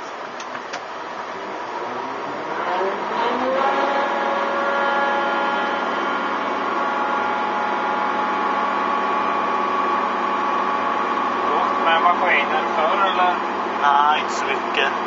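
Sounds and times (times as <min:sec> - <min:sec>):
steady drivetrain whine: 0:00.0 - 0:15.0
truck diesel engine drone: 0:00.0 - 0:15.0.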